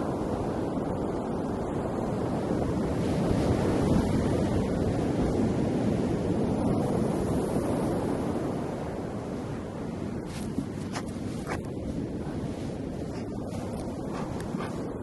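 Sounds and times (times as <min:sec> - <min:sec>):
ocean waves on shore: 0:00.0 - 0:15.0.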